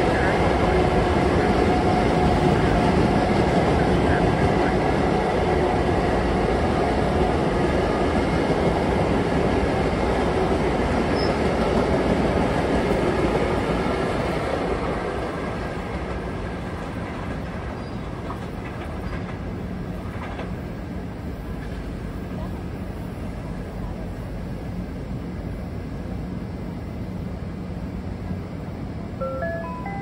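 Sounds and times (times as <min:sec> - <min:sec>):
commuter train running past: 0:00.0 - 0:30.0.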